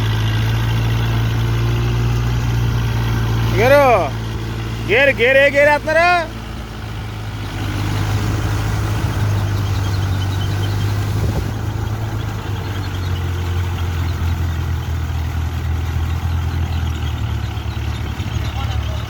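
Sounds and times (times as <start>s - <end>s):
tractor diesel engine humming: 0.0s - 19.0s.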